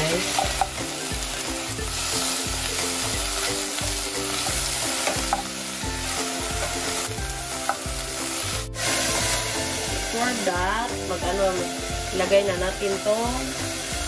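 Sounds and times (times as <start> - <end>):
meat and onion sizzling: 0.0 - 14.0.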